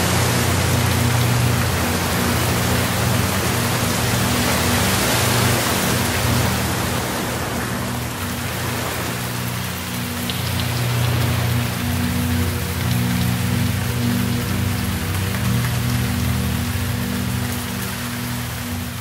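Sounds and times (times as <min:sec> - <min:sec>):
low steady drone: 0:00.0 - 0:19.0
steady rain falling: 0:00.0 - 0:19.0.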